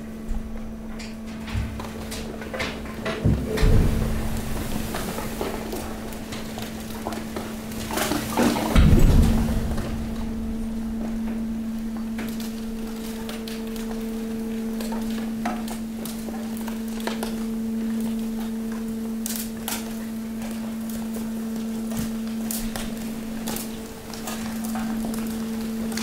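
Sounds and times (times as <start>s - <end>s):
hydraulic pump humming: 0.0s - 26.0s
crackling plastic bags and bottles: 1.8s - 26.0s.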